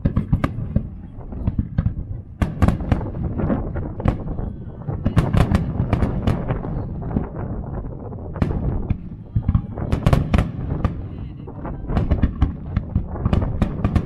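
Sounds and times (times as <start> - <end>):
low rumble of booms: 0.0 - 14.0.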